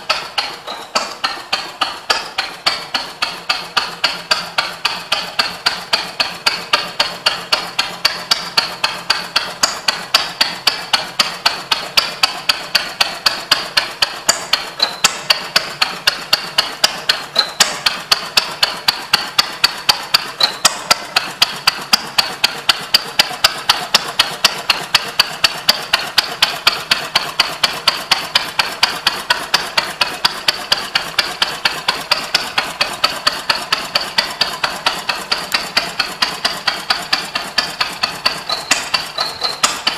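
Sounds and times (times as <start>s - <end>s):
stationary engine knocking: 0.0s - 39.9s.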